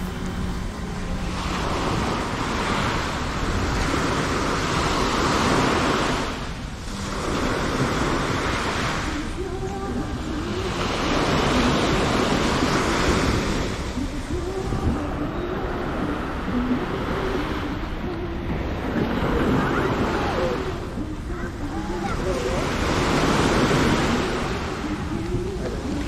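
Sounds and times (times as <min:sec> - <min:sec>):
small waves breaking on beach: 0:00.0 - 0:26.0.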